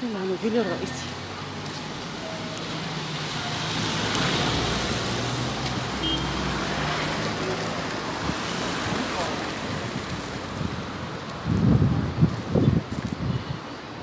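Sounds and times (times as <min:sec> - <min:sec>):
cars driving past: 0:00.5 - 0:13.1.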